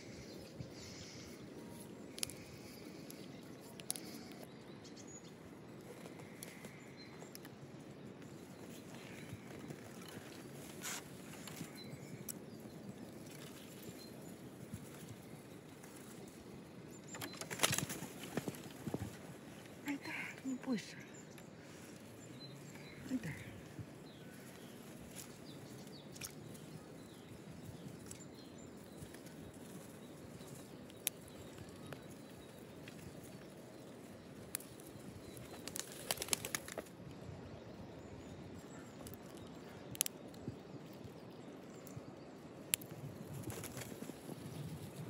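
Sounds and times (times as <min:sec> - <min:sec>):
faint outdoor background: 0:00.0 - 0:45.0.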